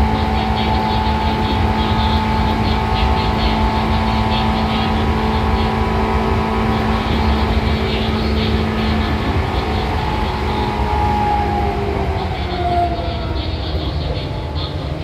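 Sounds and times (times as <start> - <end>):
traction motor whine: 0.0 - 15.0
train wheels rumbling: 0.0 - 15.0.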